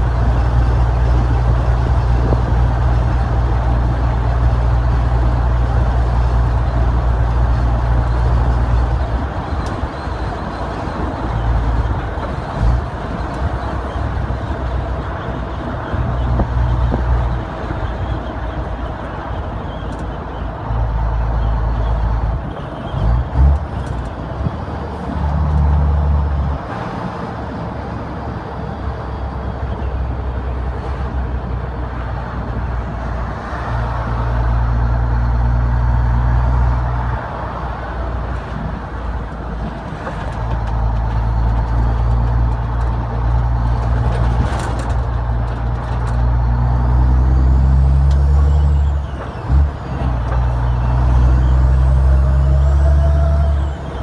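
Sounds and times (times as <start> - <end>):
diesel engine pulling under load: 0.0 - 54.0.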